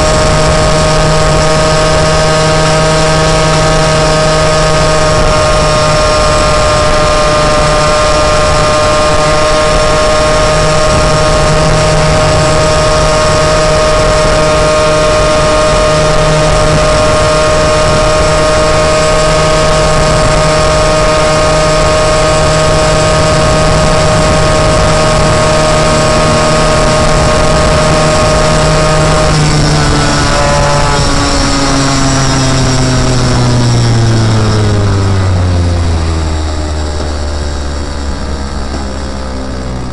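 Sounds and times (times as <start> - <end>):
moped engine running: 0.0 - 39.9.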